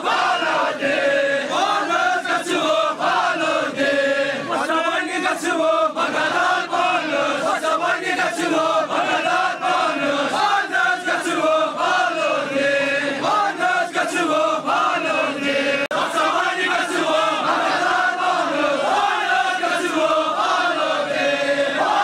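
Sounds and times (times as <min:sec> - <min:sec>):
men chanting together: 0:00.0 - 0:22.0.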